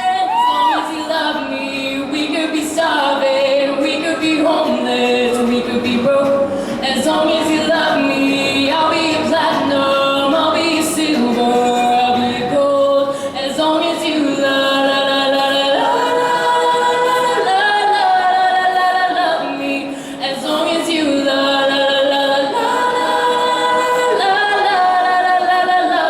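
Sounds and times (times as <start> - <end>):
voices singing held notes: 0.0 - 26.0.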